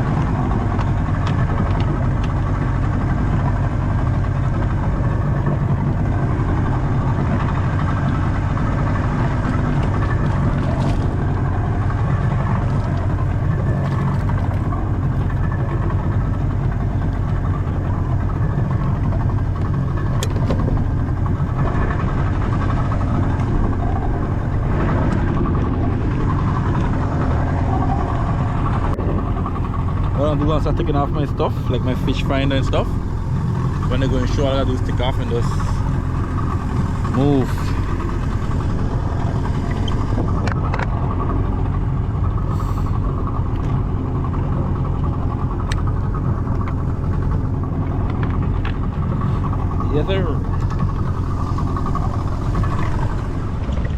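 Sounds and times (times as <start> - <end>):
boat engine running: 0.0 - 53.9
water noise: 0.0 - 53.9
wind: 0.0 - 53.9.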